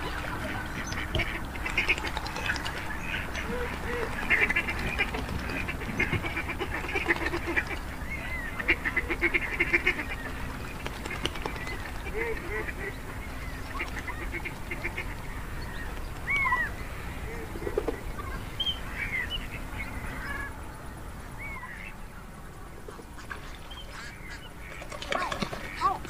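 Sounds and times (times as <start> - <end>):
ducks quacking: 0.0 - 20.6, 21.4 - 26.0
geese honking: 0.0 - 26.0
steady background noise: 0.0 - 26.0.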